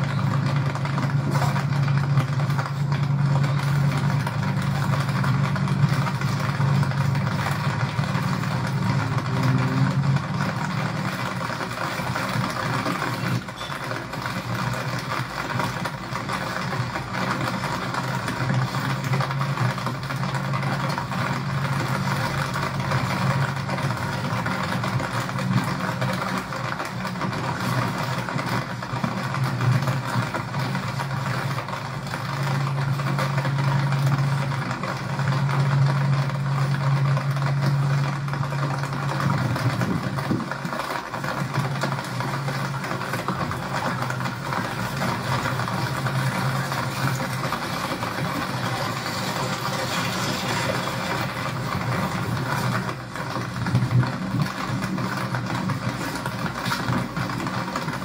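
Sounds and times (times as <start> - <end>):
road noise on wet road: 0.0 - 58.0
vehicle engine humming: 0.0 - 58.0.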